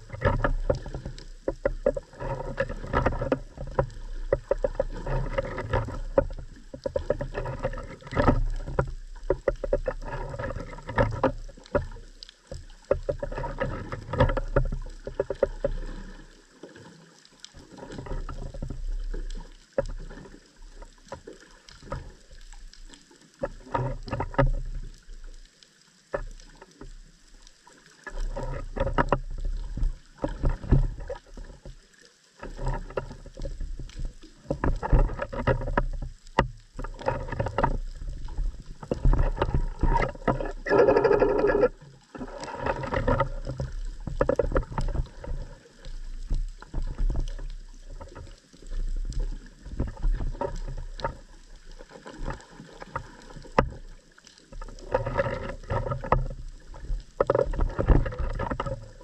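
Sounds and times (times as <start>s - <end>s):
underwater clicks: 0.0s - 59.0s
underwater water noise: 0.0s - 59.0s.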